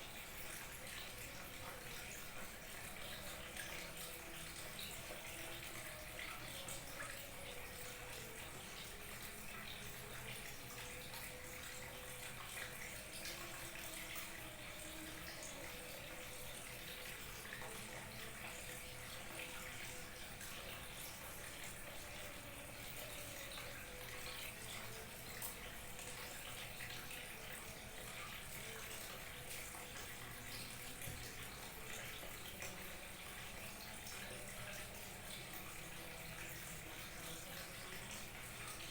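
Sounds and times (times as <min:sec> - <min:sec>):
small waterfall trickling: 0:00.0 - 0:38.9.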